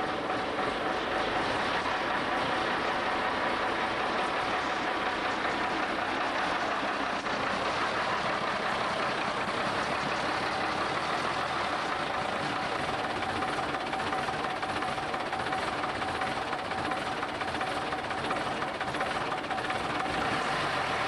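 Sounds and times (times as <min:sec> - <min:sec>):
diesel engine knocking: 0:00.0 - 0:21.0.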